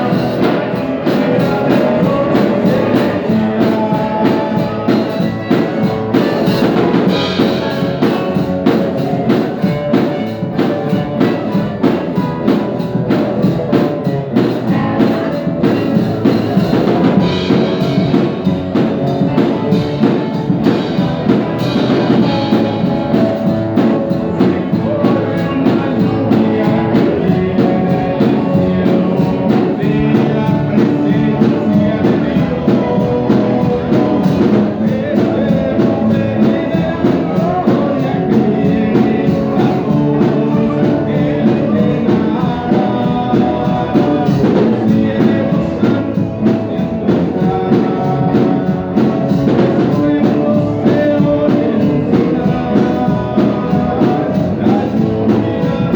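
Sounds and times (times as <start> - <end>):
christian song with guitar and drums: 0.0 - 55.9.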